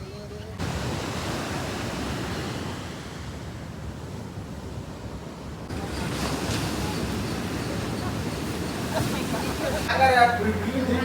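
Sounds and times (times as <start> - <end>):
ocean surf washing in: 0.6 - 11.0.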